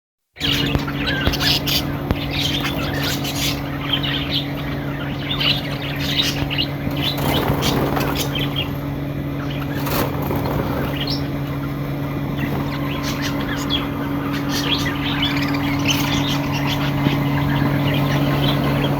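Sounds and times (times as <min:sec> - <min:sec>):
lovebirds chirping: 0:00.4 - 0:18.9
steady low hum: 0:00.4 - 0:18.9.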